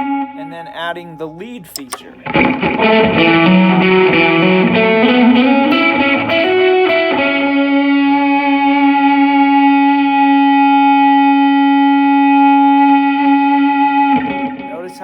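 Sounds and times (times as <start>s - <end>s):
distorted electric guitar lead: 0.0s - 14.7s.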